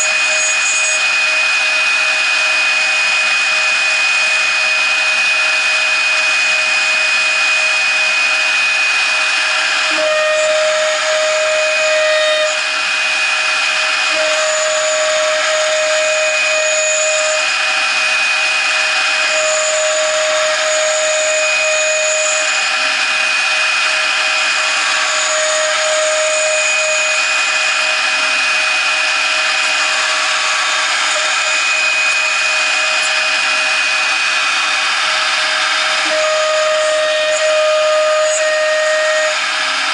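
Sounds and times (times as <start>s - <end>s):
end mill cutting metal: 0.0s - 39.9s
router spindle whining: 0.0s - 39.9s.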